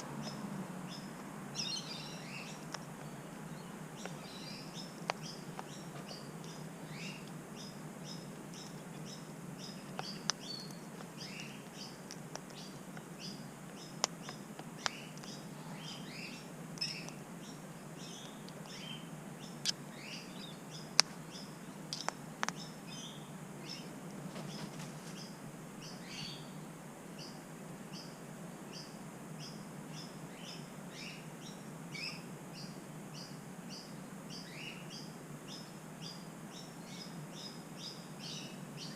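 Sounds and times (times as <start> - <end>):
low steady hum: 0.0 - 38.9
small birds chirping: 0.0 - 38.9.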